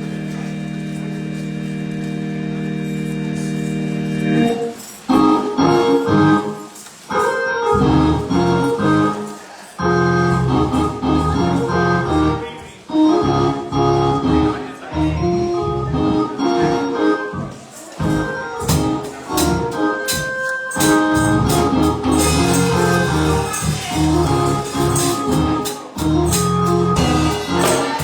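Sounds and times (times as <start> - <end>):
organ playing chords: 0.0 - 28.0.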